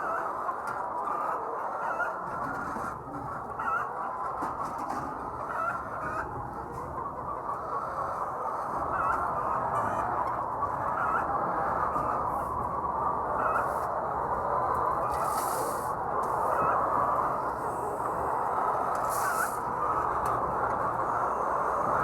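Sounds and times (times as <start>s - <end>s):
flock of hens clucking: 0.0s - 22.0s.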